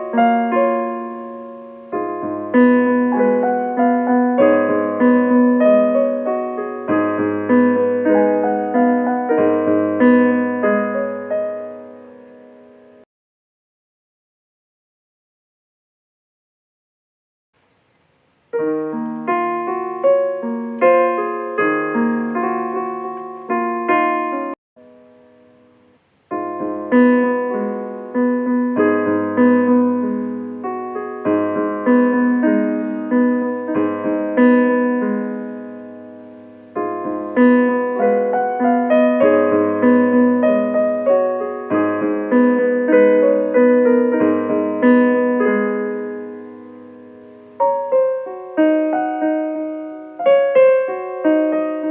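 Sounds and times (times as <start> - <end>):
piano playing: 0.0 - 13.1, 18.5 - 51.9.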